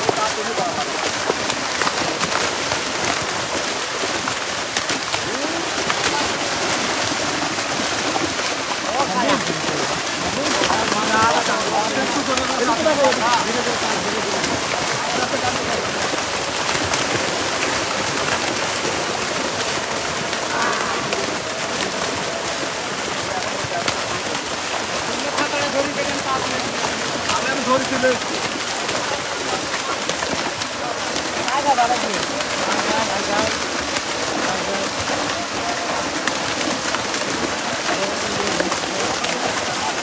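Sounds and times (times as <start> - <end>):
fish splashing at the surface: 0.0 - 40.0.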